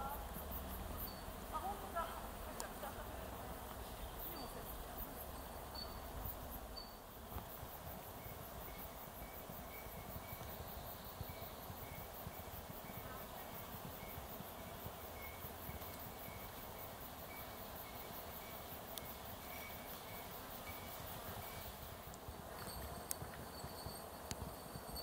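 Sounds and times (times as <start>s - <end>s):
insect chirping: 0.0s - 25.0s
very high insect pulses: 0.0s - 25.0s.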